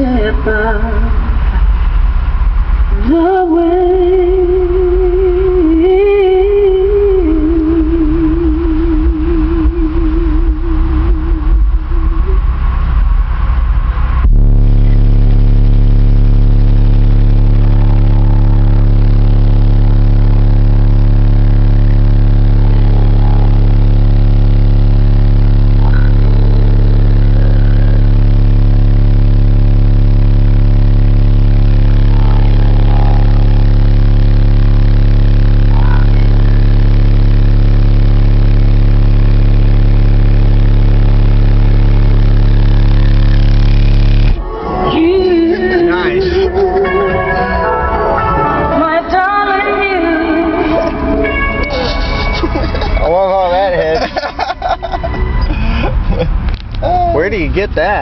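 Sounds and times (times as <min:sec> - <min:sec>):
loud deep bass note: 0:00.0 - 0:58.0.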